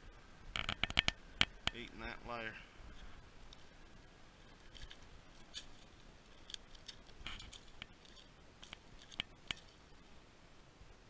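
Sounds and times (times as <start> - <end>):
leaves and twigs crackling underfoot: 0.6 - 10.2.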